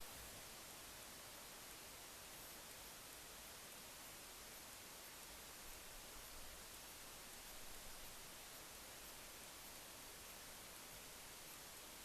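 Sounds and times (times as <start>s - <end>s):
faint microphone hiss: 0.0s - 12.0s.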